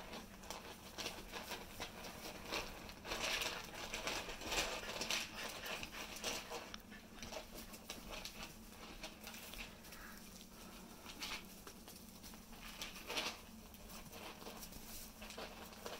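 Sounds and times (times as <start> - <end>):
puppy paws scrabbling on pads: 0.0 - 15.9.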